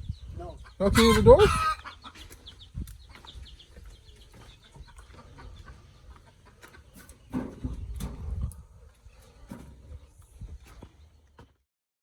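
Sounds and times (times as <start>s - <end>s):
chickens clucking: 0.0s - 11.6s.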